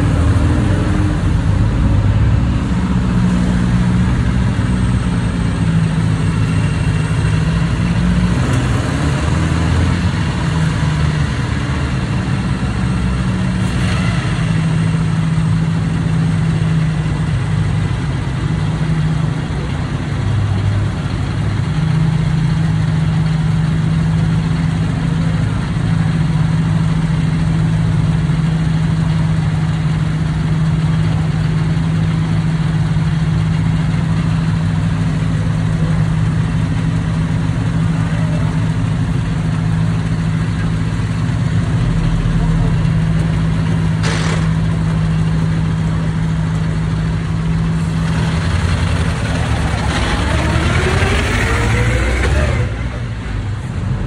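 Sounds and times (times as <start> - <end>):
car engine idling: 0.0 - 8.4, 9.1 - 54.0.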